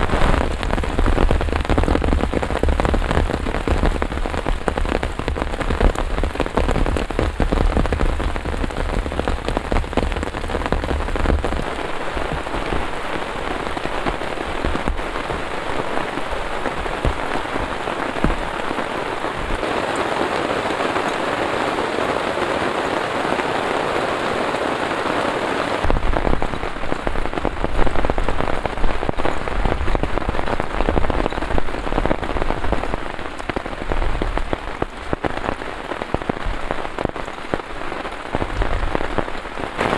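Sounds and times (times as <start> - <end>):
heavy rain falling: 0.0 - 39.9
raindrops striking a surface: 0.0 - 39.9.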